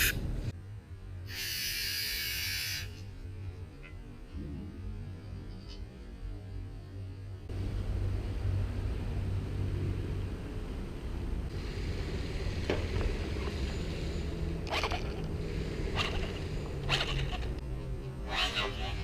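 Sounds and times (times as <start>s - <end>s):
low rasping mechanical rumble: 0.0s - 19.0s.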